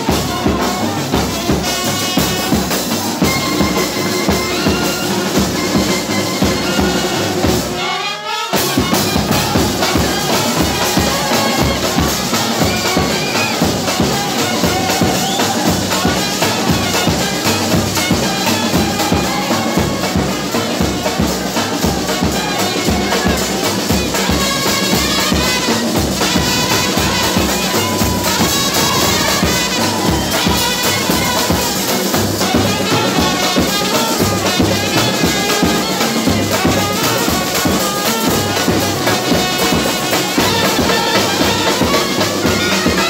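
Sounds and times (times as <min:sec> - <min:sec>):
brass band playing: 0:00.0 - 0:43.0
drums and cymbals: 0:00.0 - 0:43.0
trumpets: 0:00.0 - 0:43.0.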